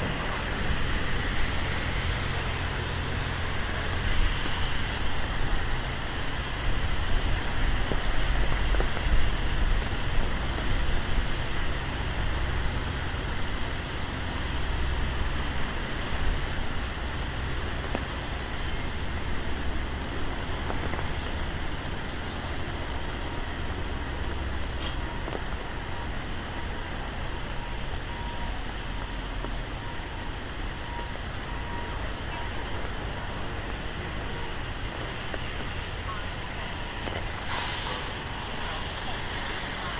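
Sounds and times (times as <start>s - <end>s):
rain falling on street: 0.0s - 39.9s
road traffic rumble: 0.0s - 39.9s.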